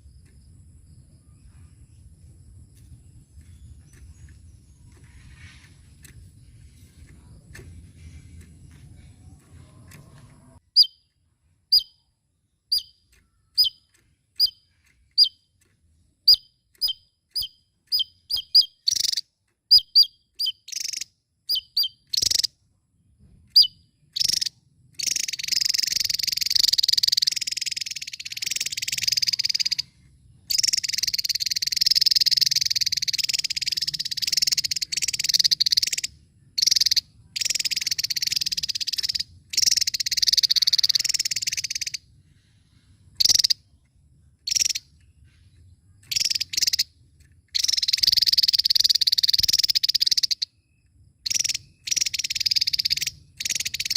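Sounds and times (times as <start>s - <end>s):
bird chirping and trilling: 0.9s - 22.5s, 23.5s - 53.9s.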